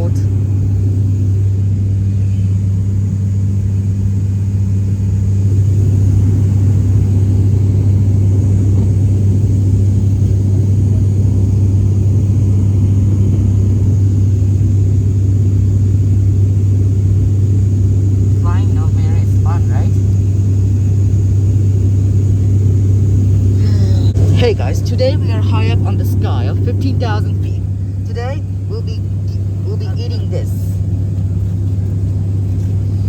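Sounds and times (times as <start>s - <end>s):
airliner cabin engine drone: 0.0s - 33.0s.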